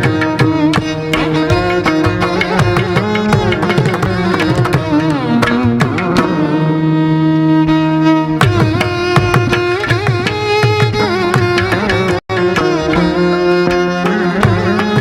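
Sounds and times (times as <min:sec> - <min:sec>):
bowed violin melody: 0:00.0 - 0:15.0.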